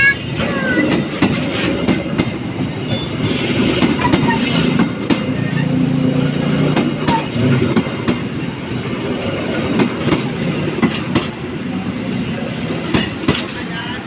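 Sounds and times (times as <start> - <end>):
train passing with wheels clacking: 0.0 - 14.0.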